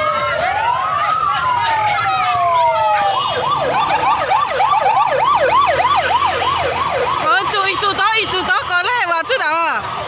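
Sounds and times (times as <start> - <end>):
police sirens wailing: 0.0 - 10.0.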